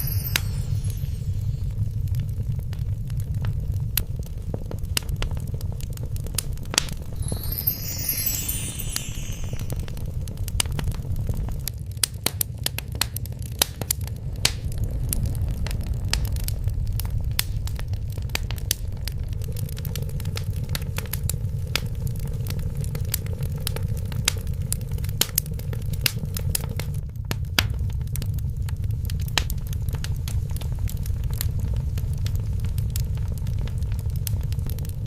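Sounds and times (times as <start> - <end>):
low rumble of burning fire: 0.0 - 8.4, 9.8 - 35.0.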